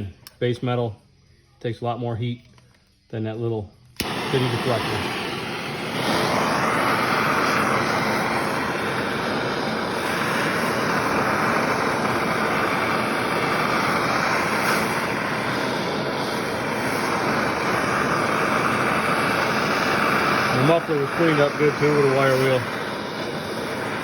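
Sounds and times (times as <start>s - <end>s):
torch flame hissing: 3.6s - 24.0s.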